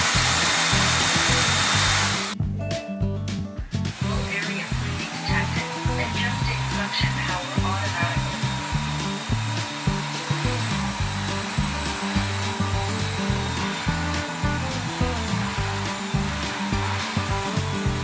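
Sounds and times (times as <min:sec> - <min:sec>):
vacuum mop whirring: 0:00.0 - 0:02.4, 0:04.0 - 0:18.0
background music with bass line: 0:00.0 - 0:18.0.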